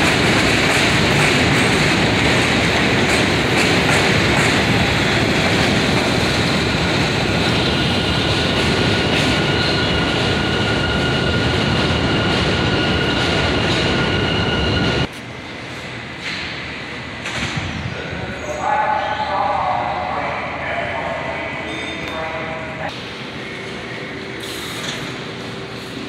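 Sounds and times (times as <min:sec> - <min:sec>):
subway train wheels rumbling on rails: 0:00.0 - 0:26.0.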